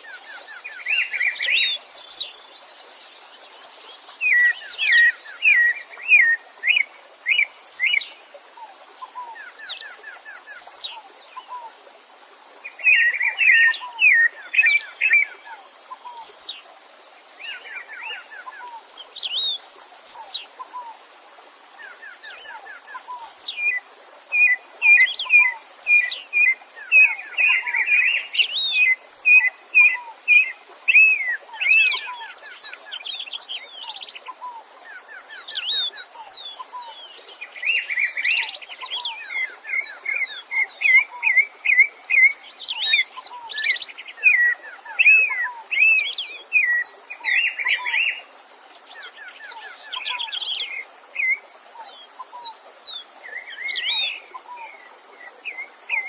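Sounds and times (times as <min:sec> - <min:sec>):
songbirds singing: 0:00.0 - 0:11.8, 0:12.6 - 0:21.0, 0:21.6 - 0:56.0
stream rushing: 0:00.0 - 0:56.0.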